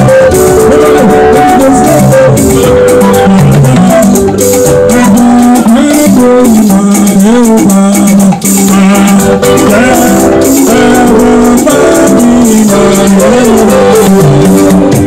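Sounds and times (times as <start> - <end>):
instruments playing: 0.0 - 15.0
shaken rattle: 0.0 - 15.0
voices singing: 0.0 - 15.0.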